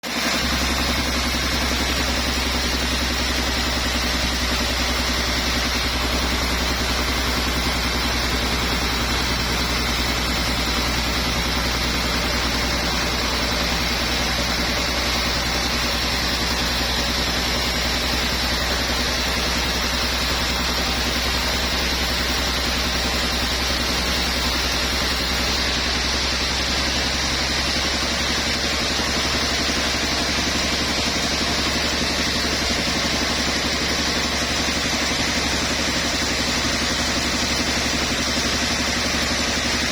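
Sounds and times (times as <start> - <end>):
sawmill machinery hum: 0.0 - 39.9
machinery high whine: 0.1 - 39.9.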